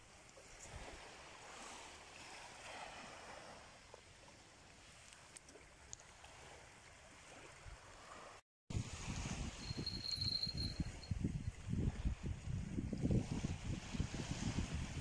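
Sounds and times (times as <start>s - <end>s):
small waves on sandy shore: 0.0s - 15.0s.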